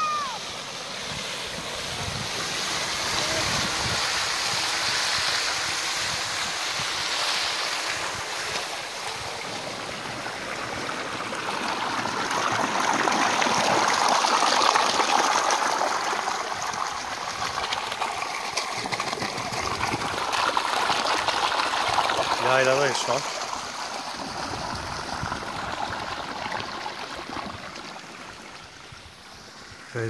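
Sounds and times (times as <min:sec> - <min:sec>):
water gushing into trough: 0:00.0 - 0:30.0.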